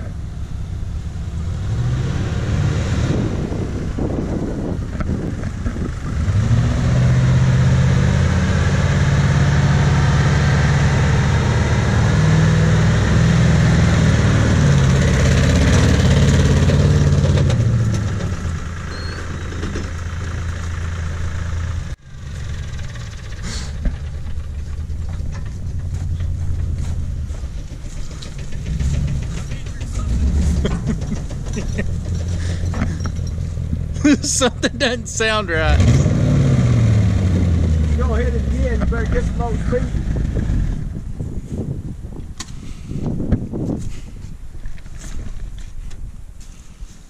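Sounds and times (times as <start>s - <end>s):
car engine humming: 0.0s - 41.7s.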